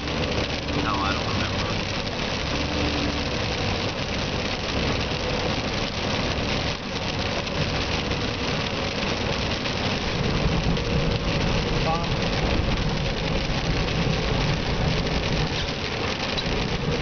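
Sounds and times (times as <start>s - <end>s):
car engine hum: 0.0s - 17.0s
rain: 0.0s - 17.0s
tyres hissing on wet road: 0.0s - 17.0s.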